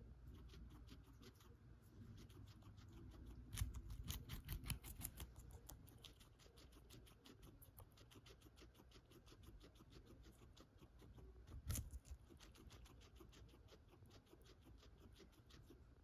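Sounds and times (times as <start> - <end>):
guinea pig chewing celery: 0.0 - 16.0.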